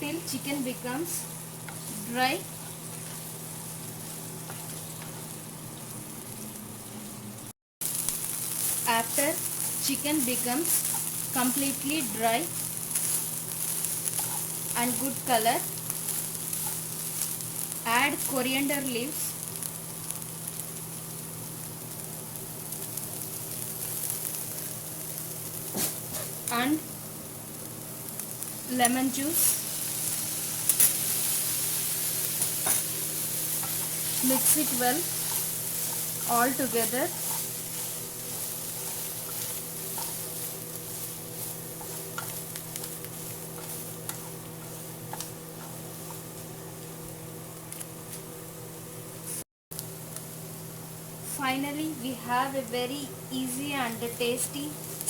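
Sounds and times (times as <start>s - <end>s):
chicken sizzling in oil: 0.0s - 48.5s, 49.3s - 55.0s.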